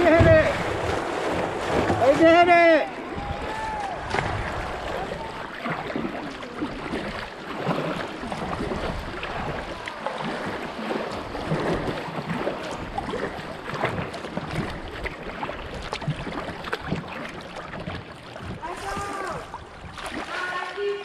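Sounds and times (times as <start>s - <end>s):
river water splashing: 0.0s - 21.0s.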